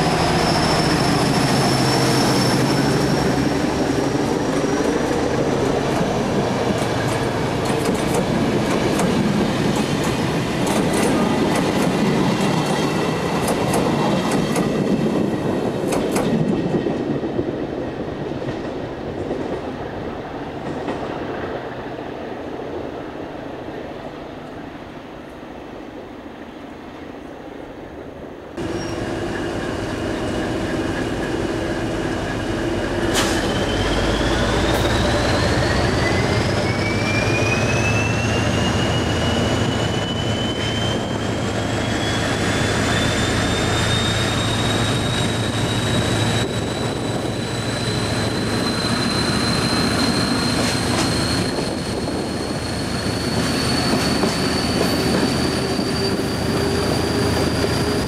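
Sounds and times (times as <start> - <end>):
train running with rumble: 0.0 - 21.6, 28.6 - 58.0.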